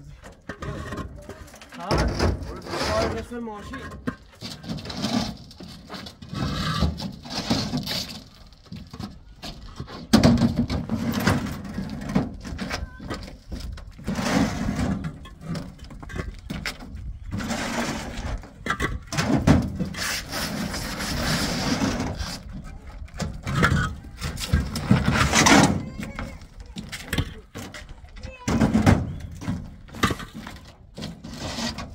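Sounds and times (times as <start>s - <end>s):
blocks scraping on truck bed: 0.1s - 31.9s.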